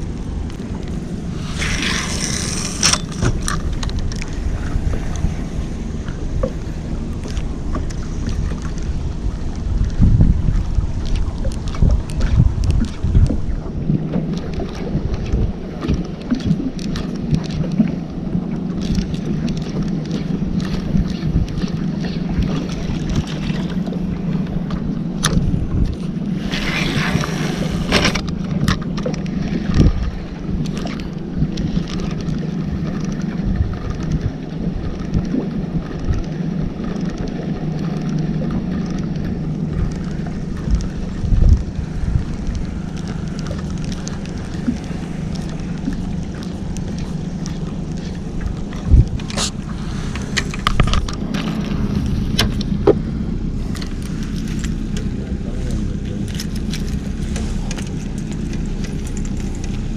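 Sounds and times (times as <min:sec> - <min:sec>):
boat motor running: 0:00.0 - 0:59.9
wind buffeting microphone: 0:00.0 - 0:59.9.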